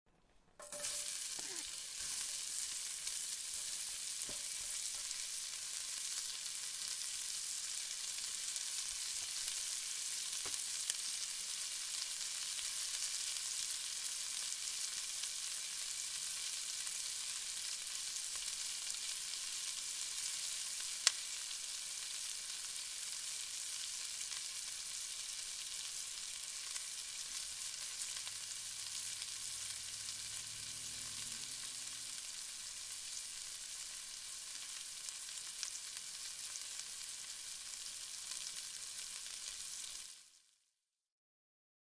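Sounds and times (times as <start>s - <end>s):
onions sizzling: 0.6s - 40.6s.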